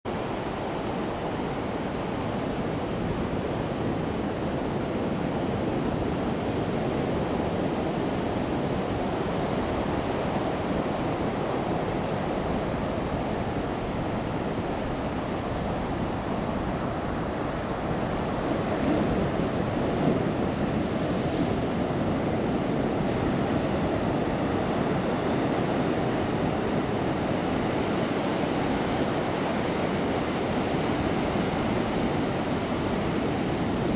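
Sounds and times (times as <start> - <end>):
ocean surf breaking on beach: 0.1 - 33.9.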